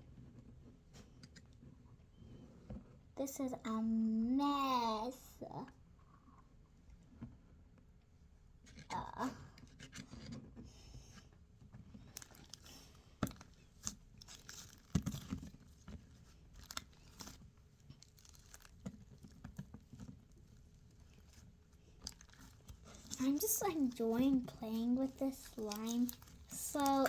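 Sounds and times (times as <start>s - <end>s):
slime squishing with crackles: 4.5s - 27.0s.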